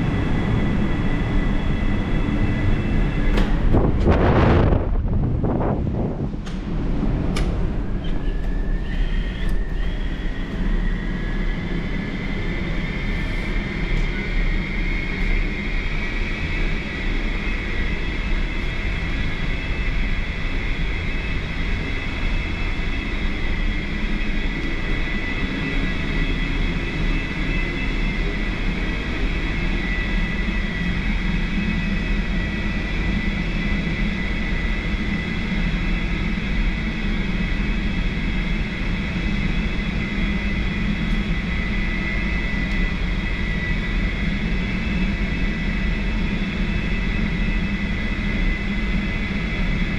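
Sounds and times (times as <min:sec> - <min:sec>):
engine and machinery drone: 0:00.0 - 0:49.9
high whine: 0:00.0 - 0:49.9.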